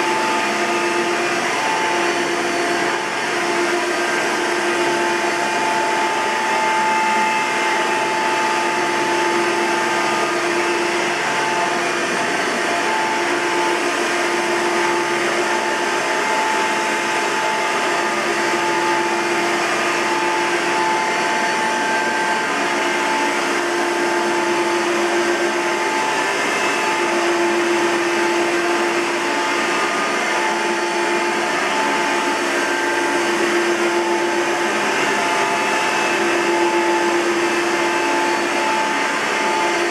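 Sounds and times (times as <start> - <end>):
vacuum cleaner running with whine: 0.0 - 39.9.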